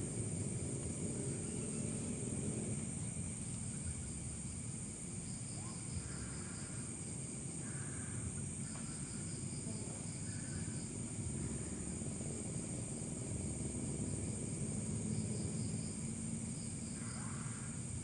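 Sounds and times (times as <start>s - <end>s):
crickets chirring: 0.0s - 18.0s
low steady rumble: 0.0s - 18.0s
pulsing insect trill: 0.0s - 18.0s.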